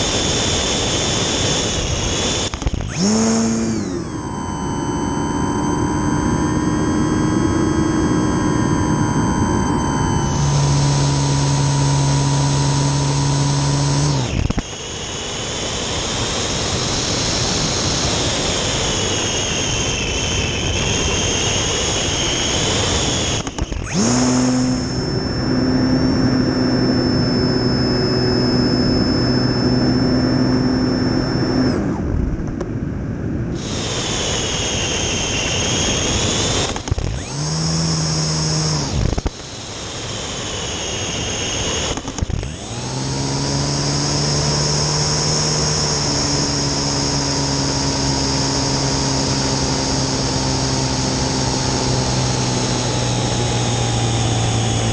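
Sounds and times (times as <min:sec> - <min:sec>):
model airplane motor and propeller: 0:00.0 - 0:54.9.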